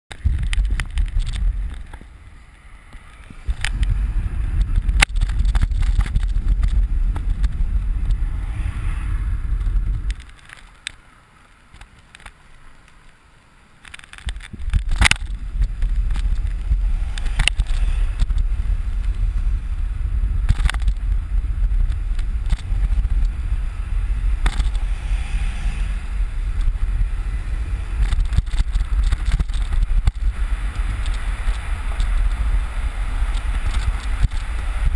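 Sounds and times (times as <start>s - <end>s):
wind buffeting microphone: 0.1s - 10.5s, 14.2s - 34.9s
bike clicks and rattles: 0.1s - 34.9s.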